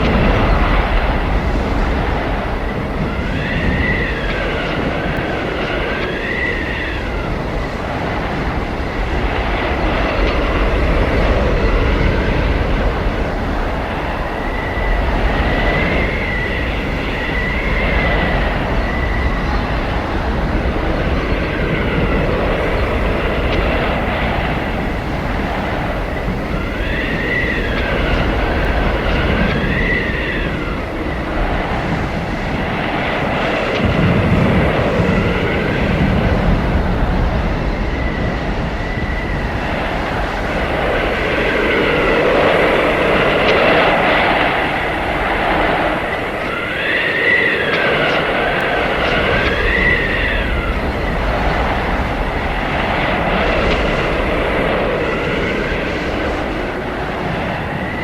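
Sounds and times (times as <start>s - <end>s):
howling blizzard wind: 0.0s - 58.0s.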